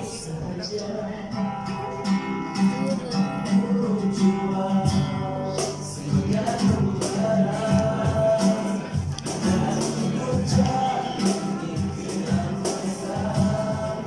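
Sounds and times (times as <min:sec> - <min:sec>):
cajon beating time: 0:00.0 - 0:14.0
man singing: 0:00.0 - 0:14.0
strummed acoustic guitar: 0:00.0 - 0:14.0.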